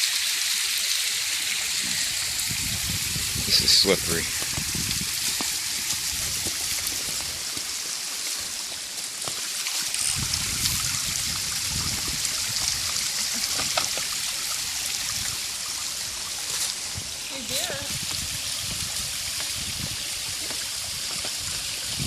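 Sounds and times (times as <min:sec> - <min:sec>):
stream rushing over bedrock: 0:00.0 - 0:22.0.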